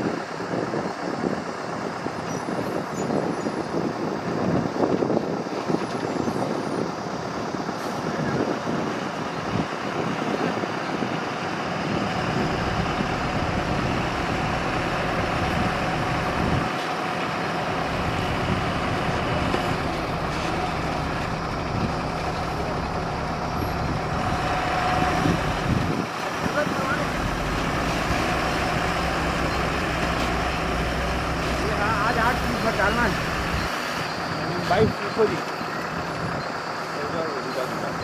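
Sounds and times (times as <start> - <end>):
diesel truck engine rumbling: 0.0 - 38.0.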